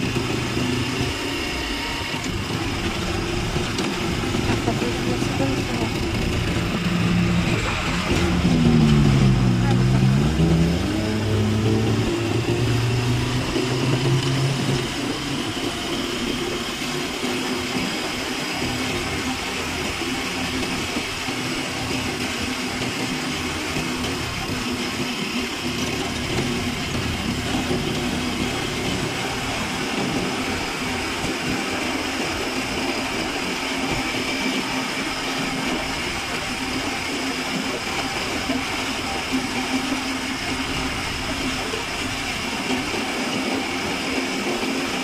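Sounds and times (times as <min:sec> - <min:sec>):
vehicle engine and road noise: 0:00.0 - 0:45.0.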